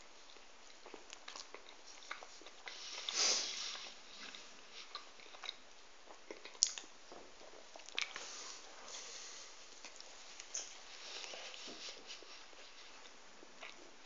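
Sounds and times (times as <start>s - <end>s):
person chewing: 0.2s - 11.7s.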